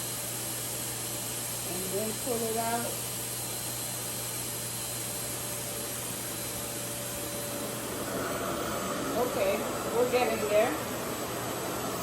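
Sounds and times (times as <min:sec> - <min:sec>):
hair dryer rushing air: 0:00.0 - 0:12.0.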